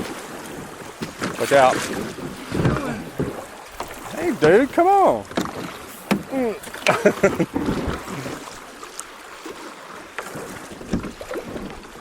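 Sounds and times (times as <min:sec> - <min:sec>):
sharp splashes or knocks: 0:00.0 - 0:09.6, 0:10.2 - 0:11.9
creek water over rocks: 0:00.0 - 0:12.0
kayak paddles splashing: 0:00.0 - 0:12.0.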